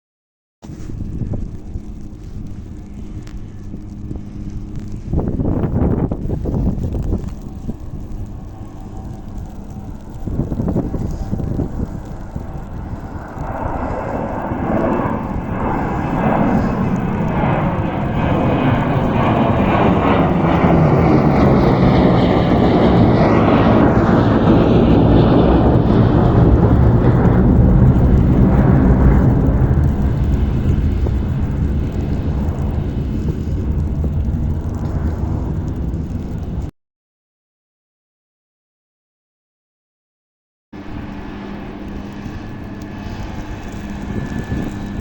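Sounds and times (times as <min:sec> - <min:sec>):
whine bending in pitch: 0:00.6 - 0:36.7, 0:40.8 - 0:45.0
snow plow engines and blowers: 0:00.7 - 0:36.7, 0:40.8 - 0:45.0.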